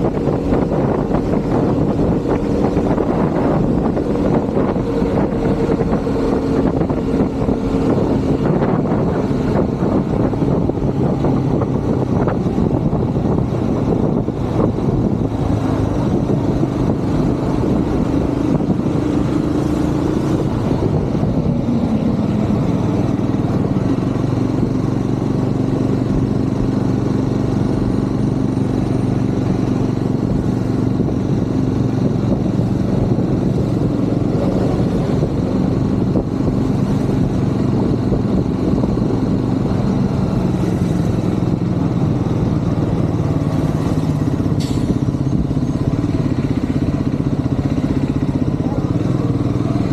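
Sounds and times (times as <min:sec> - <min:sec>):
city traffic: 0:00.0 - 0:49.9
motorcycle engine running: 0:00.0 - 0:49.9.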